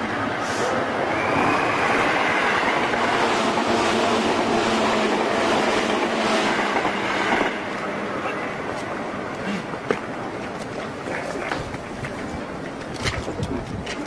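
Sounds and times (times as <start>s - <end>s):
train rushing: 0.0s - 14.0s.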